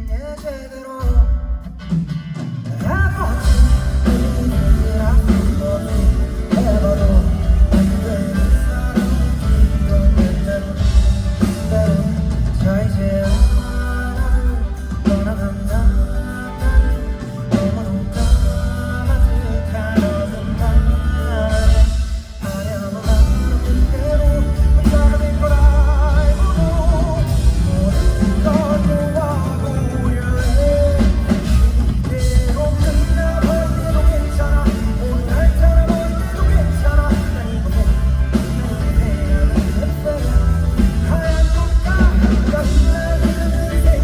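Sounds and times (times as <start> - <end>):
live rock band playing: 0.0 - 44.0
person singing with vibrato: 0.0 - 44.0.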